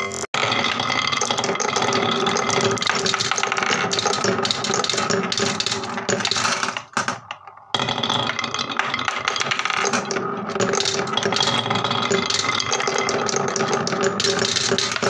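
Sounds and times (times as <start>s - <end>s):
marbles rattling in wooden bowl: 0.0s - 15.0s.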